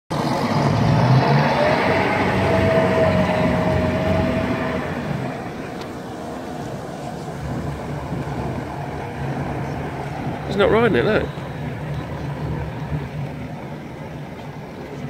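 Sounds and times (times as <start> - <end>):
outboard motors running: 0.1 - 15.0
steady motor whine: 0.1 - 15.0.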